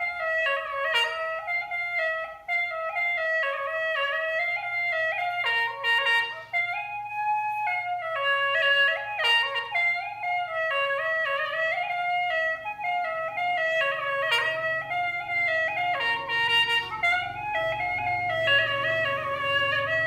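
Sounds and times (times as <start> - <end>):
reedy wind instrument melody: 0.0 - 20.0.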